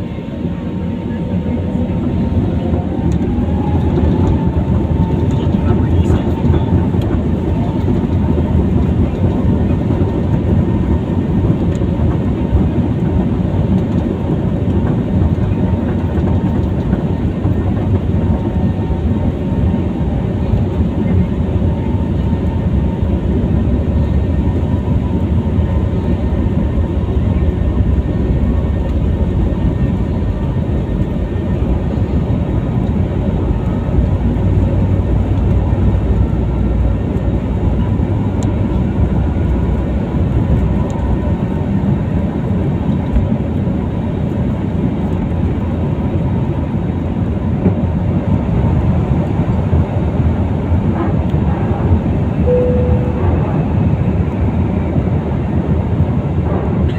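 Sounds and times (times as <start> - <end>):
jet airliner cabin rumble: 0.0 - 56.9.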